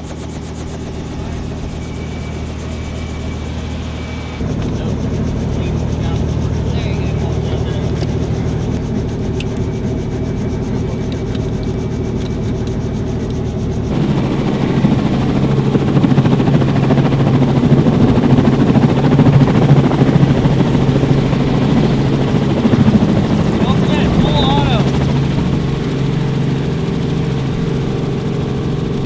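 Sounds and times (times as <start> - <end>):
helicopter rotor flutter: 0.0 - 29.0
vehicle engine running: 0.0 - 29.0.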